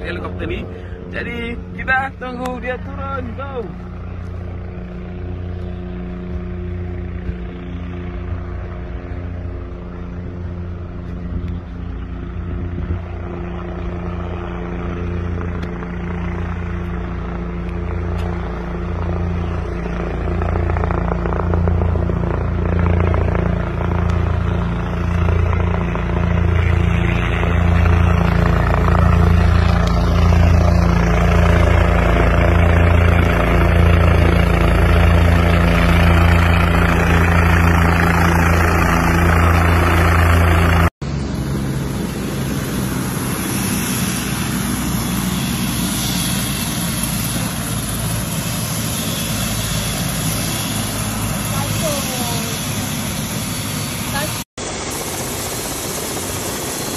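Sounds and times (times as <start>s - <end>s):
helicopter rotor thumping: 0.0s - 56.9s
helicopter whirring on ground: 0.0s - 56.9s.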